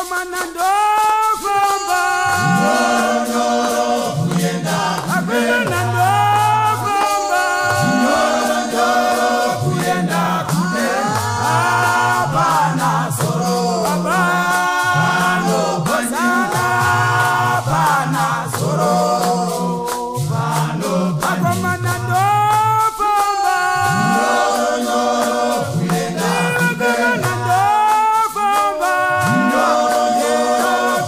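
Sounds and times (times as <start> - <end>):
men's choir singing in harmony: 0.0 - 31.0
shaken rattles: 0.0 - 31.0.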